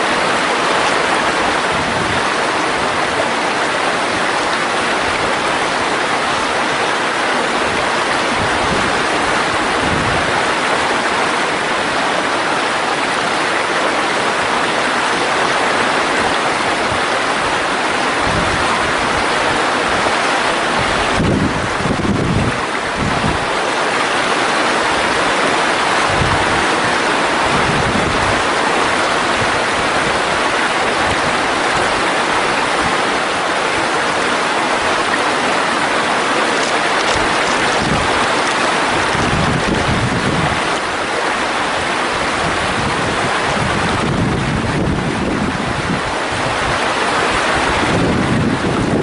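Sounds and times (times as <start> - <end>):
wind rumble on microphone: 0.0 - 13.4, 14.1 - 49.0
stream rushing over rocks: 0.0 - 49.0.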